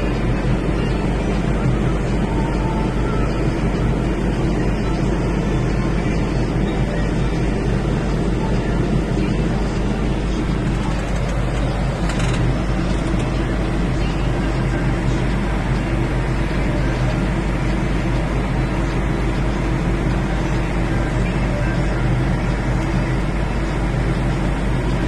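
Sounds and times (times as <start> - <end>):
baler and tractor running: 0.0 - 25.0.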